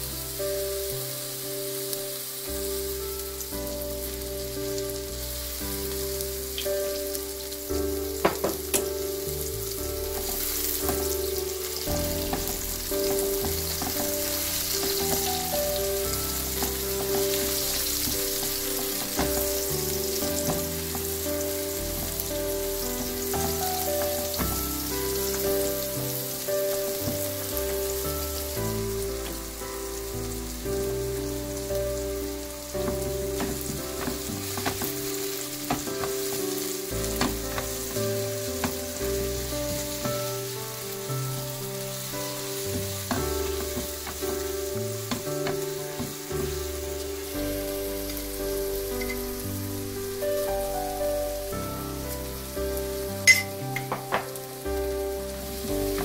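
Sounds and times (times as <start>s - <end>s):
mushrooms sizzling in oil: 0.0s - 56.0s.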